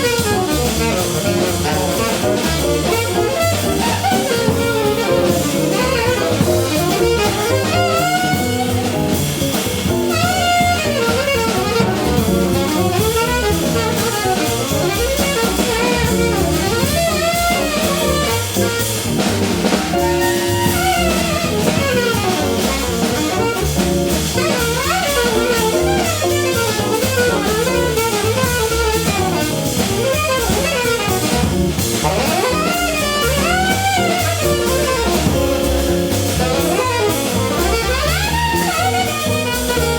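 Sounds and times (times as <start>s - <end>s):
bass: 0.0s - 39.9s
drum kit: 0.0s - 39.9s
jazz guitar: 0.0s - 39.9s
saxophone: 0.0s - 39.9s.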